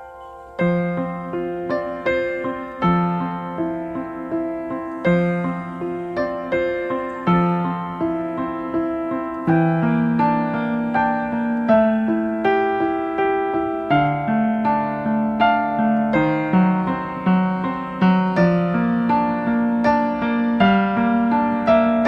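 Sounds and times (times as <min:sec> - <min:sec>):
calm piano music: 0:00.0 - 0:22.0.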